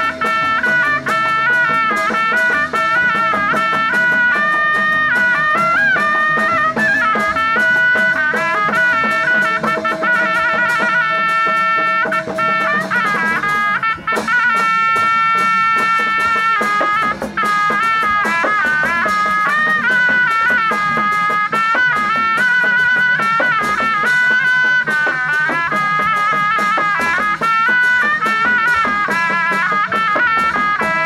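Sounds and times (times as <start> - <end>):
quick percussion strokes: 0.0 - 31.0
reedy wind instrument melody: 0.0 - 31.0.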